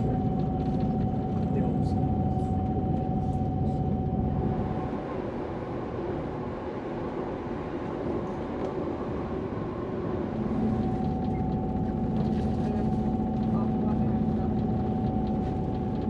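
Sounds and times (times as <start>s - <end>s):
diesel railcar running rumble: 0.0s - 16.0s.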